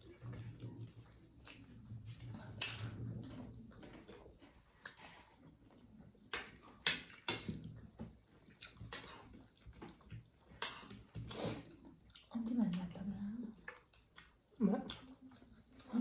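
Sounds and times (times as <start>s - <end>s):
wet chewing and smacking: 0.1s - 13.0s, 13.6s - 16.0s.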